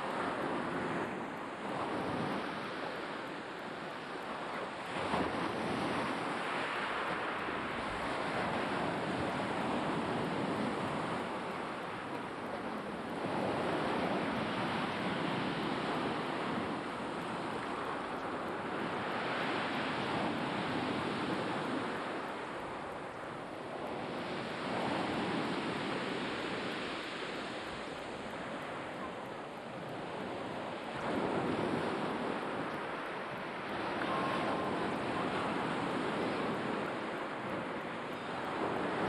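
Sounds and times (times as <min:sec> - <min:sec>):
waves breaking on shore: 0:00.0 - 0:39.0.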